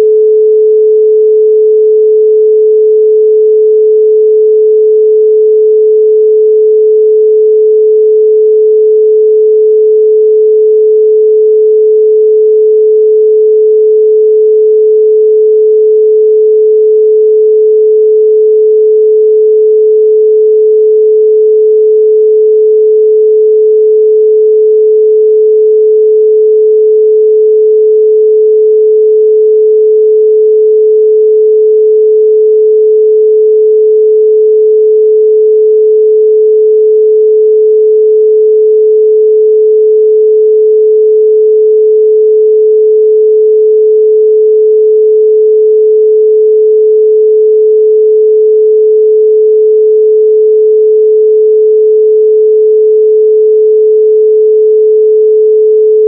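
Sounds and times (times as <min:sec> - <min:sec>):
pure sine tone: 0:00.0 - 0:56.0.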